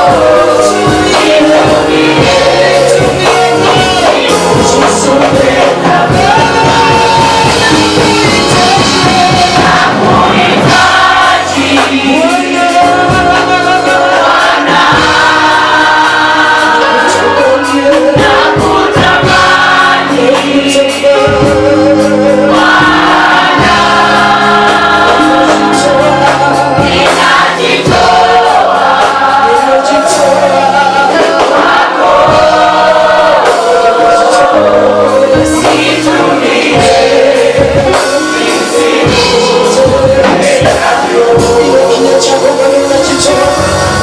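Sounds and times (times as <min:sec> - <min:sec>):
bass line: 0:00.0 - 0:44.0
choir singing with vibrato: 0:00.0 - 0:44.0
drum beat: 0:00.0 - 0:44.0.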